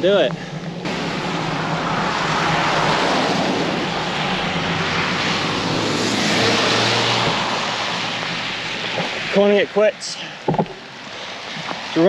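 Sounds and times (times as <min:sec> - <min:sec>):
tyres on wet road: 0:00.0 - 0:12.0
wind buffeting microphone: 0:00.0 - 0:12.0.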